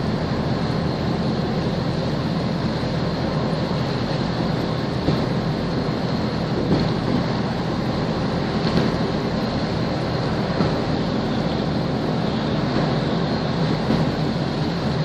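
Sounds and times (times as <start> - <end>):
low engine rumble: 0.0 - 15.0
rushing water: 0.0 - 15.0.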